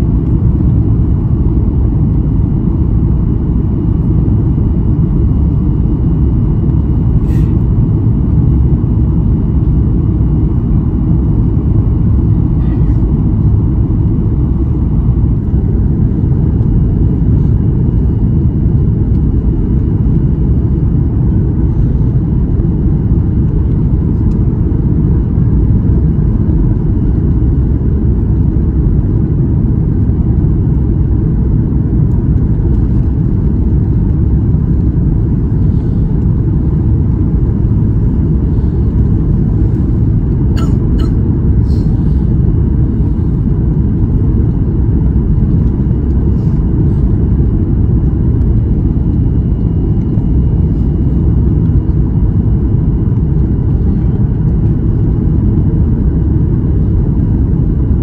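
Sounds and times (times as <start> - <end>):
airplane cabin roar: 0.0 - 58.0.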